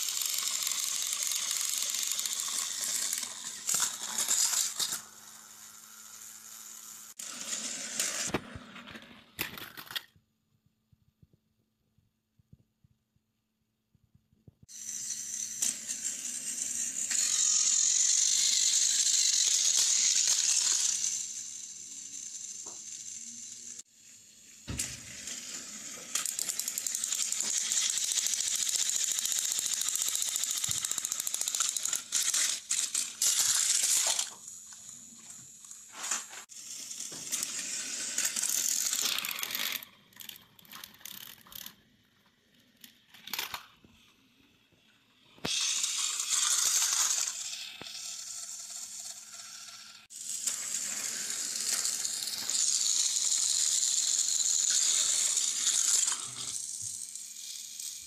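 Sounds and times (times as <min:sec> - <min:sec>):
toy train motors whirring: 0:00.0 - 0:10.1, 0:14.7 - 0:58.0
plastic toy trains clattering: 0:00.0 - 0:10.2, 0:14.7 - 0:58.0.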